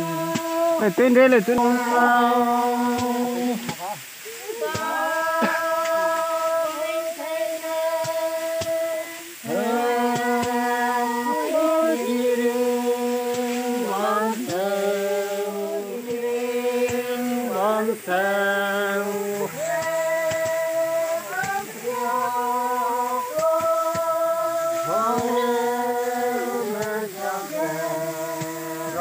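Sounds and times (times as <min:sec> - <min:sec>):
women singing chant-like song: 0:00.0 - 0:29.0.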